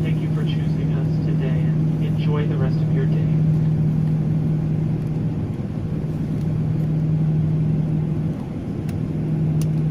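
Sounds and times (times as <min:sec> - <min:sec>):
airliner engines droning: 0:00.0 - 0:09.9.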